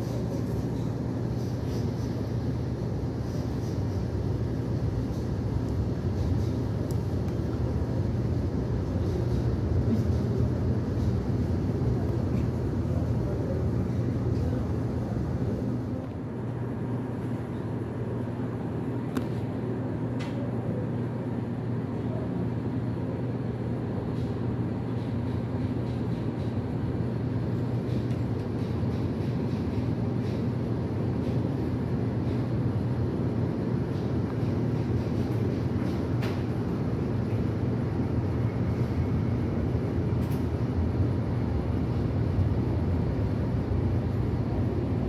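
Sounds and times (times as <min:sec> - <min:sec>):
distant trains rumbling: 0:00.0 - 0:45.0.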